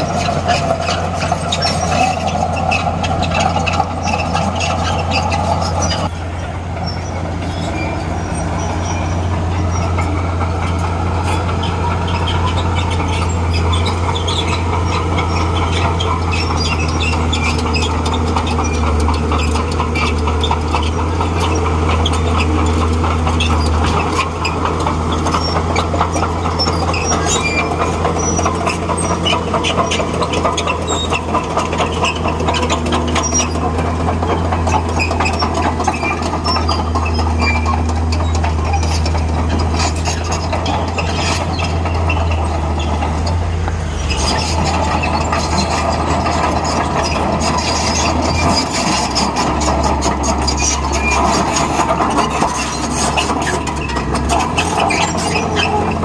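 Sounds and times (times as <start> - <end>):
diesel engine droning: 0.0 - 56.0
steel tracks clattering: 0.0 - 56.0.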